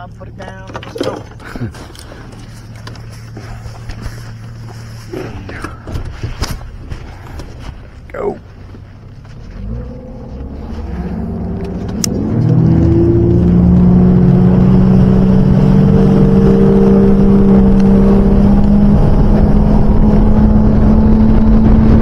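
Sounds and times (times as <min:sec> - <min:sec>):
outboard motor throttling up: 0:00.0 - 0:22.0.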